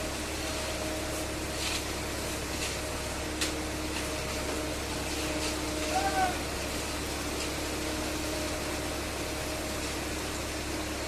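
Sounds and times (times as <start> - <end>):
construction machinery droning: 0.0 - 11.0.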